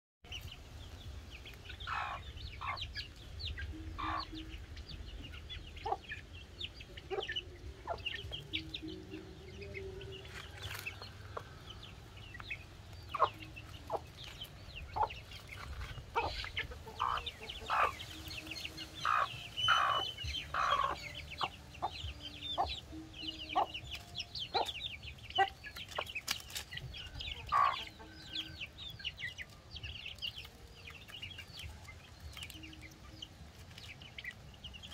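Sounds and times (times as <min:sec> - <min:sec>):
chicks peeping: 0:00.2 - 0:34.9
hen clucking: 0:01.6 - 0:30.5.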